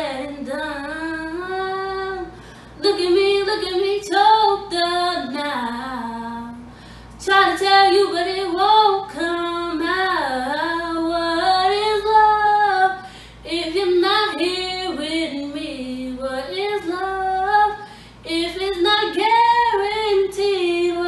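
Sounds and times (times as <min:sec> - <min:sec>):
woman singing unaccompanied: 0:00.0 - 0:21.0.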